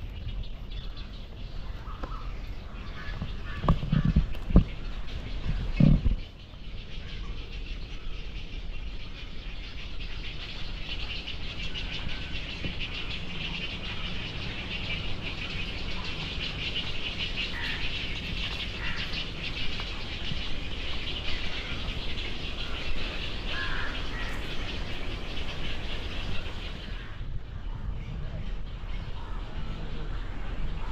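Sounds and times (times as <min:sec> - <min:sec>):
birds chirping chorus: 0:00.0 - 0:30.9.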